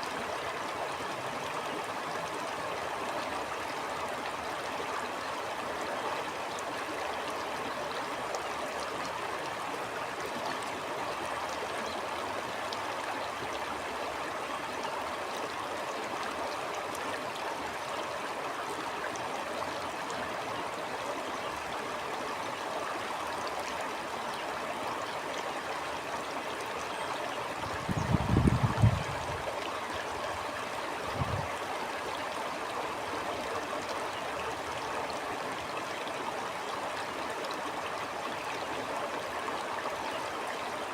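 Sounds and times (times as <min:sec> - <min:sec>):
water flowing over rocks: 0:00.0 - 0:40.9.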